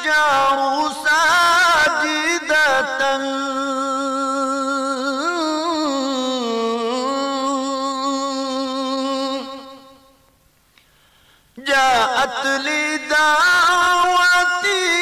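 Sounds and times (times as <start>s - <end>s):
man singing a long note: 0.0s - 10.2s, 11.6s - 15.0s.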